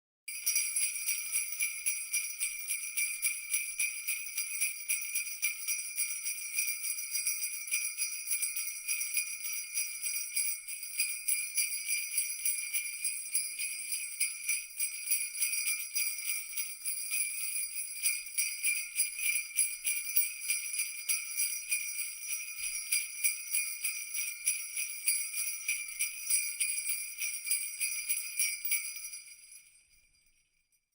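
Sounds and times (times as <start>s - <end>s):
sleigh bells jangling: 0.3s - 30.8s.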